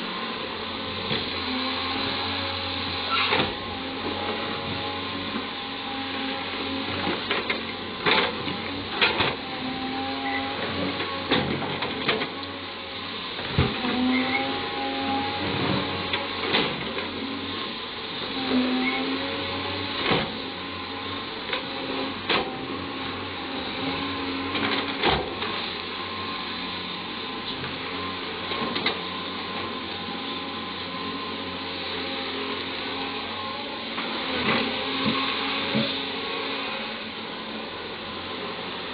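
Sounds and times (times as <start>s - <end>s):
excavator running under load: 0.0s - 38.9s
hydraulic whine: 0.0s - 38.9s.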